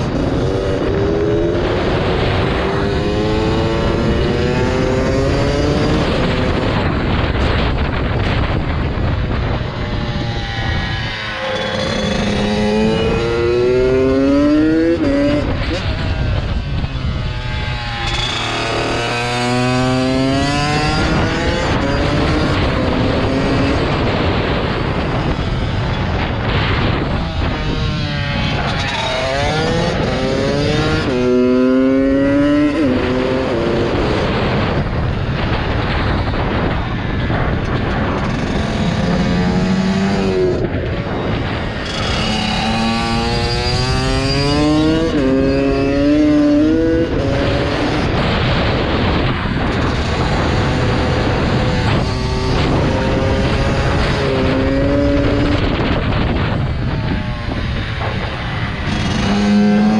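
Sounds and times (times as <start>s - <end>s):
pit bike engine revving: 0.0s - 8.1s, 10.2s - 34.8s, 36.4s - 59.9s.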